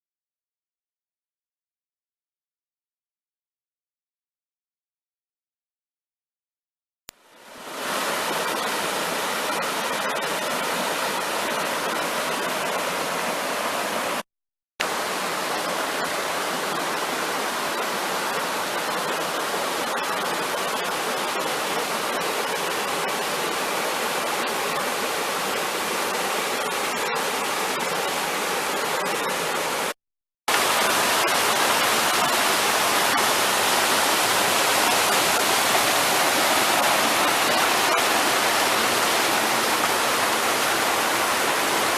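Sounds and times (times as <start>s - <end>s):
waterfall rushing: 7.5s - 14.2s, 14.8s - 41.9s.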